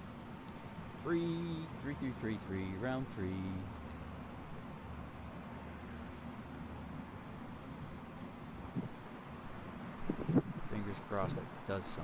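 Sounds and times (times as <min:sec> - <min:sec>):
crickets chirping: 0:00.0 - 0:12.0
low background hum: 0:00.0 - 0:12.0.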